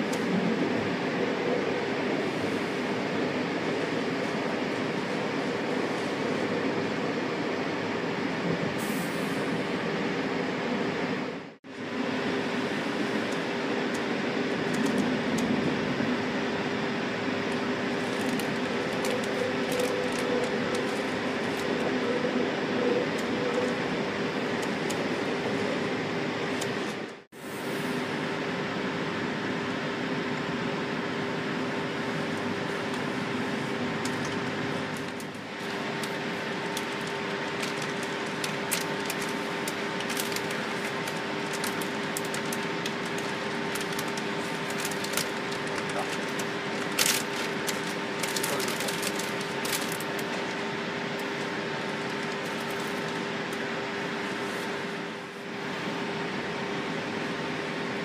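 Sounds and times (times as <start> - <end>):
electric train hum and running: 0.0 - 58.0.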